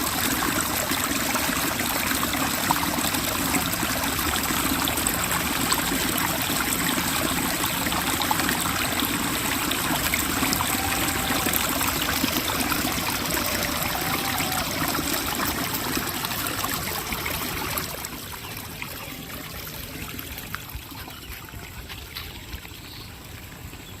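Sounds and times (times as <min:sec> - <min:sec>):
water flowing and trickling: 0:00.0 - 0:24.0.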